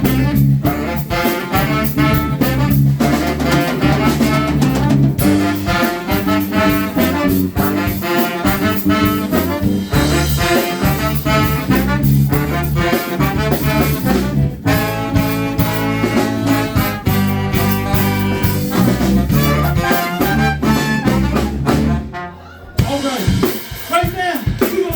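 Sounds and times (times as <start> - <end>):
trombones and trumpets playing: 0.0 - 23.2
drum kit beat: 0.0 - 24.9.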